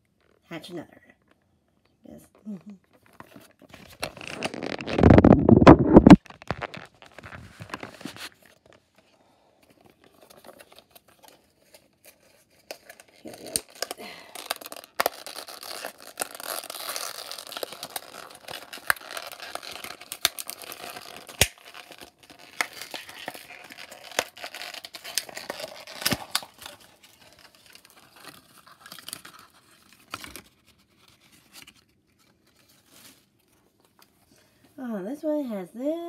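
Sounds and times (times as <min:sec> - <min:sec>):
toy egg crinkling and tearing: 0:03.0 - 0:08.8, 0:09.8 - 0:33.3.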